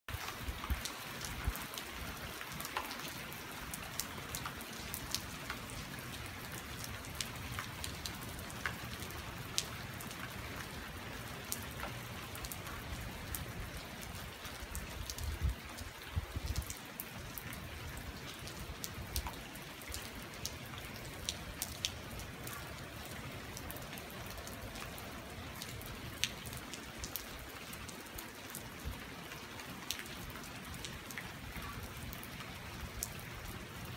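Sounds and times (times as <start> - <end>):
raindrops ticking on surfaces: 0.1 - 33.9
steady rain on a street: 0.1 - 33.9.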